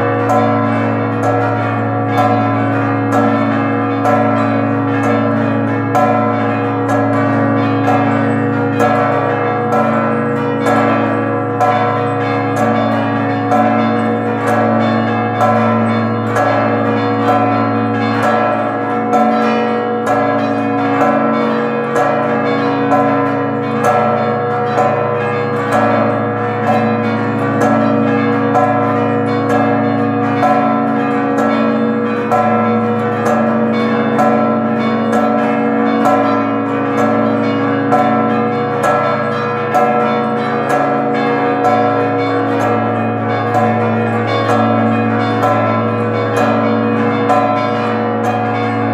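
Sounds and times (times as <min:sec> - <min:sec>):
church bells ringing: 0:00.0 - 0:48.9.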